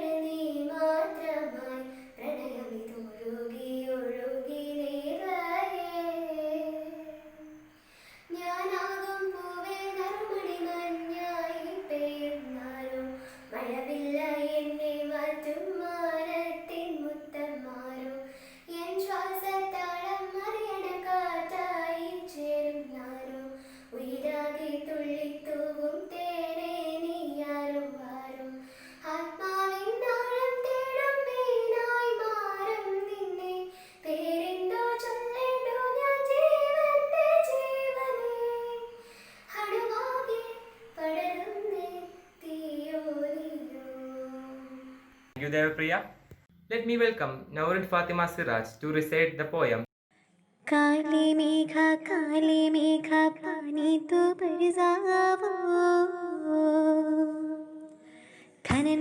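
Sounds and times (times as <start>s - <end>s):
girl singing slow song: 0.0s - 45.4s, 50.2s - 59.0s.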